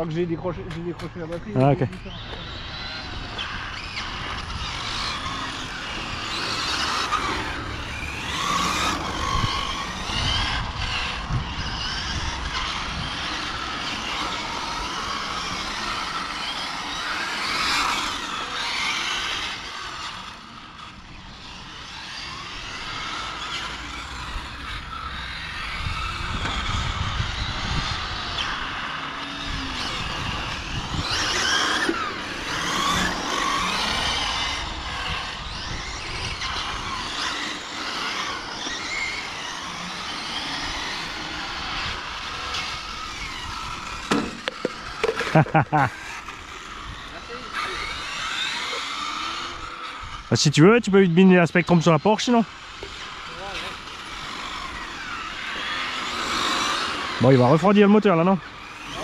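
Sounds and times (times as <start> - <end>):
model car motors revving: 0.0 - 59.0.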